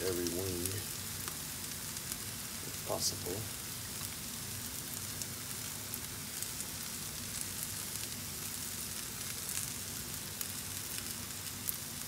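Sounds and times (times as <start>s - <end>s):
faint crackles: 0.0s - 12.0s
oil sizzling in a frying pan: 0.0s - 12.0s.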